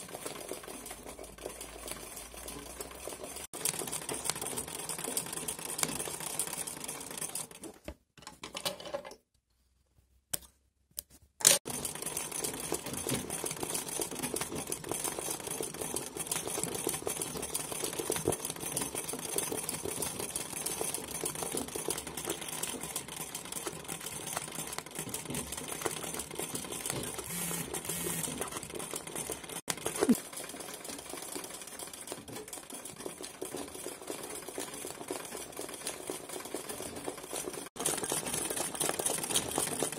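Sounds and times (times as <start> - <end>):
sewing machine rattling: 0.0 - 9.2, 11.4 - 39.9.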